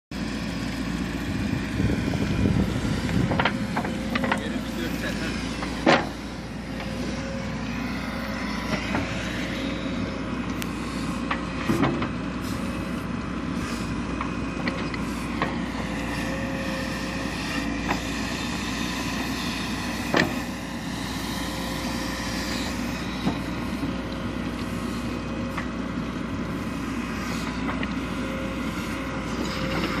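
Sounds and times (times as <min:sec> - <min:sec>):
diesel engine running: 0:00.1 - 0:30.0.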